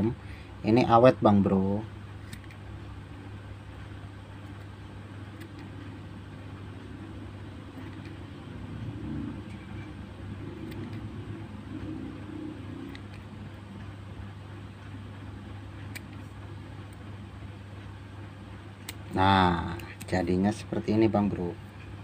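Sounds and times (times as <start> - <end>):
low rumble and hum: 0.0 - 22.0.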